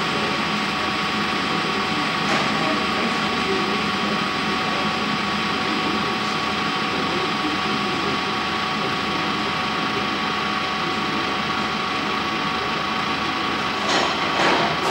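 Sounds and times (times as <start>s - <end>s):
metal lathe running with whine: 0.0s - 14.9s.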